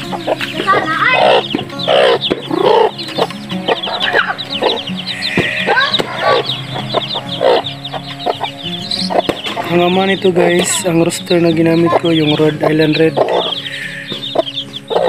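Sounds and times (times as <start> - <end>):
background music: 0.0 - 15.0
chicks peeping: 0.0 - 15.0
hen clucking: 0.0 - 15.0.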